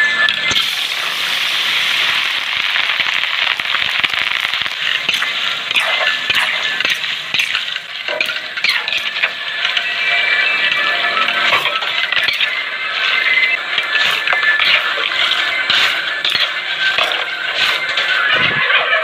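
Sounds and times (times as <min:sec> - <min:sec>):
fish sizzling in hot oil: 0:00.5 - 0:18.3.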